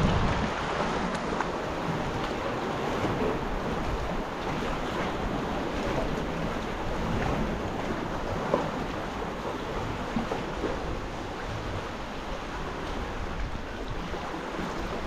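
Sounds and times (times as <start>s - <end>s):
sea water lapping around kayak: 0.0s - 15.0s
wind rumbling on microphone: 0.0s - 15.0s.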